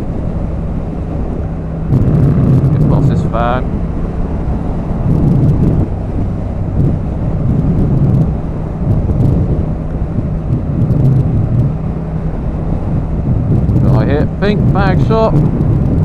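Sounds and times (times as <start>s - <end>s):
motorcycle engine cruising: 0.0s - 16.0s
wind rumble on microphone: 0.0s - 16.0s.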